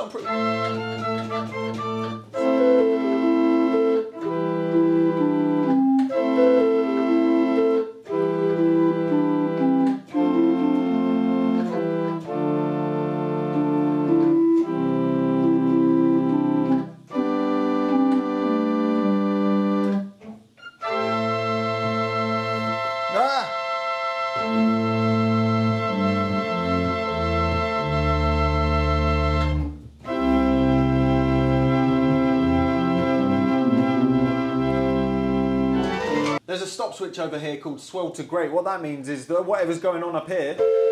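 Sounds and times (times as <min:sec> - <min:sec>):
pipe organ chords and melody: 0:00.0 - 0:36.5, 0:40.6 - 0:40.9.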